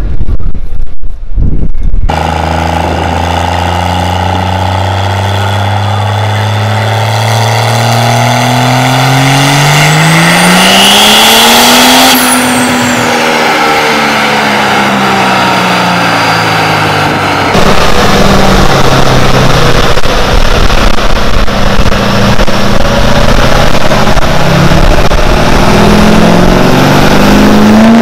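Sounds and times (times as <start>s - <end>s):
high whine: 0.0s - 28.0s
diesel engine revving: 2.0s - 28.0s.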